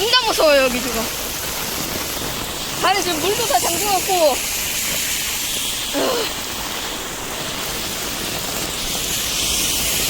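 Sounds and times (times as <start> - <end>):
floodwater running: 0.0 - 10.0
torrential rain on pavement: 0.0 - 10.0.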